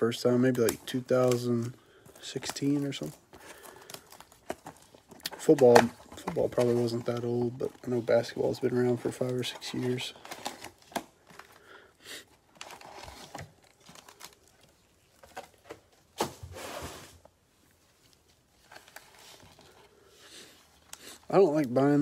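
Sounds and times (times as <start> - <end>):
plastic packs crinkling: 0.0 - 16.2, 18.0 - 22.0.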